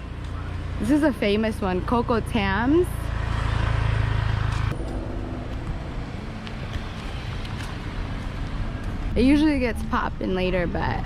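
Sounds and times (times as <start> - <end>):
car engine humming: 0.0 - 9.4
street noise: 0.0 - 11.0.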